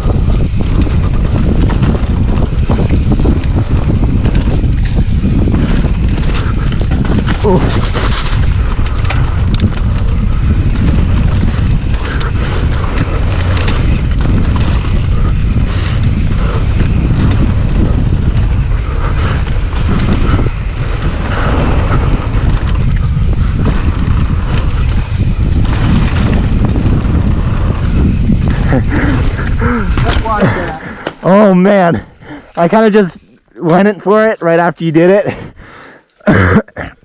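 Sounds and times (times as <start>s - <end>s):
bike knocks and rattles: 0.0s - 31.4s
wind buffeting microphone: 0.0s - 33.6s.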